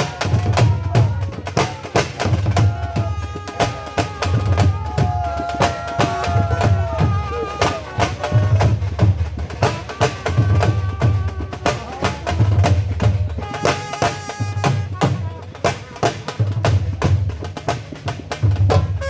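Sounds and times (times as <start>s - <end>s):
dhol drumming: 0.0s - 19.0s.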